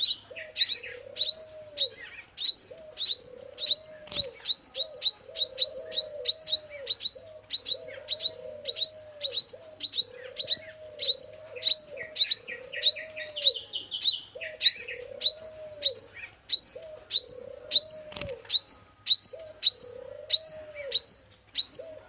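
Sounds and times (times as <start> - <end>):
bird chattering notes: 0.0 - 21.9
bird high rising call: 0.0 - 22.0
lower arching bird call: 0.0 - 22.0.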